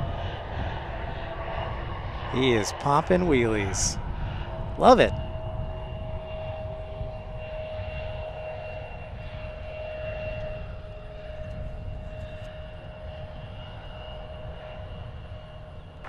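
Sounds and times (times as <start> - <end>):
jet airliner engines on runway: 0.0 - 16.0.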